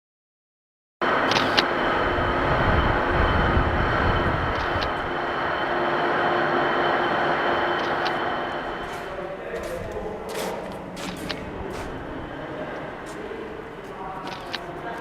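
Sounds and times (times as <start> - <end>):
tractor engine rumbling: 1.2 - 15.0.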